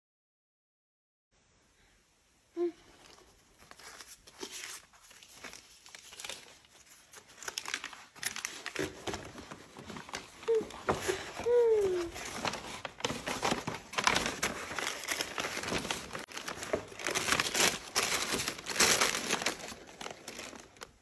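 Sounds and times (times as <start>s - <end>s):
paper rustling and crinkling: 2.9s - 21.0s.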